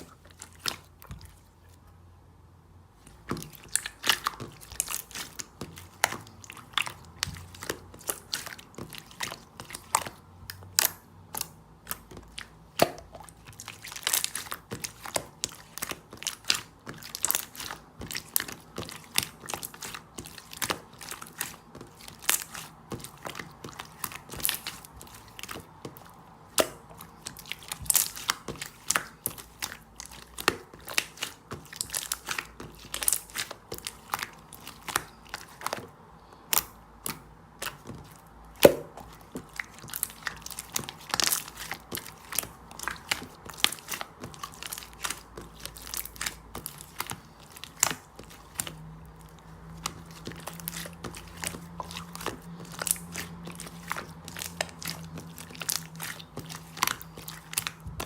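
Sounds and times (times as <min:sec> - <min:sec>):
crisp crackling and snapping: 0:03.1 - 0:58.0.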